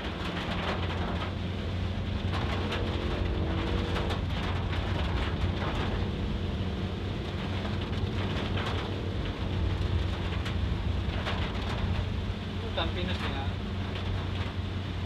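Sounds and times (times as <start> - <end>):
heavy rain beating on a car: 0.0 - 15.0
low rumble of engine and tyres: 0.0 - 15.0.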